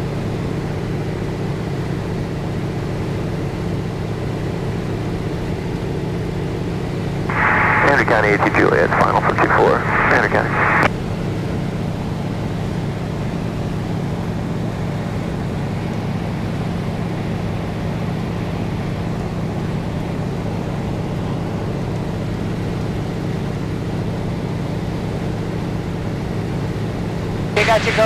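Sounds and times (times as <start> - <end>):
propeller aircraft engine drone: 0.0 - 28.0.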